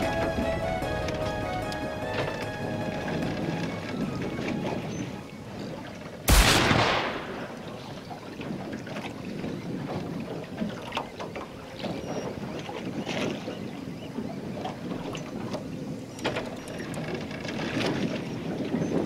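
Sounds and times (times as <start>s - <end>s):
sea noise: 0.0s - 19.0s
wind: 0.0s - 19.0s.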